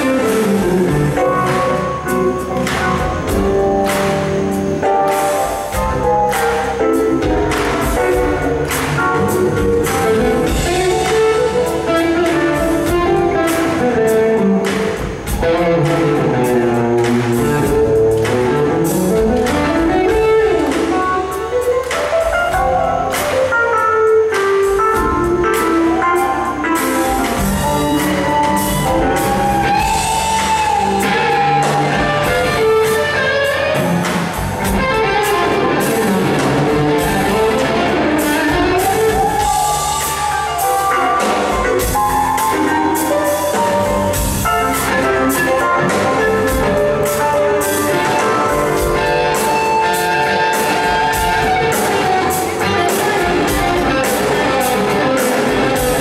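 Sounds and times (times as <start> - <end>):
bass guitar: 0.0 - 56.0
drum kit: 0.0 - 56.0
electric guitars: 0.0 - 56.0
sliding bending lead guitar line: 0.0 - 56.0.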